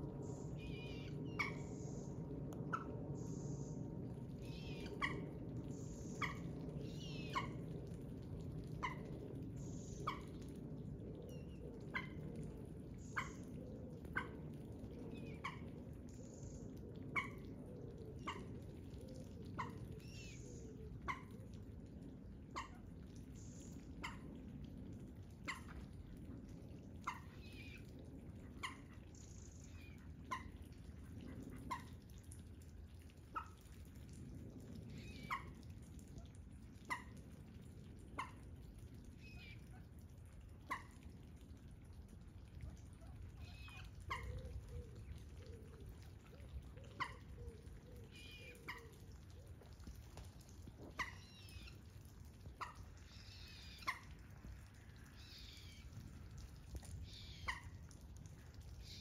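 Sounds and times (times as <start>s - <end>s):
faint low rumble: 0.0s - 59.0s.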